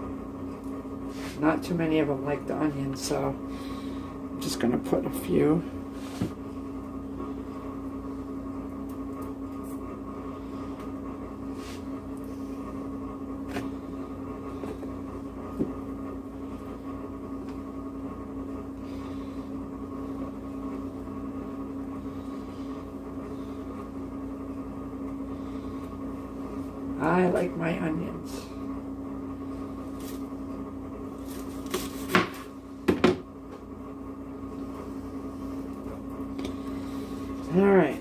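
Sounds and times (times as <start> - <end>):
steady machine hum: 0.0 - 38.0.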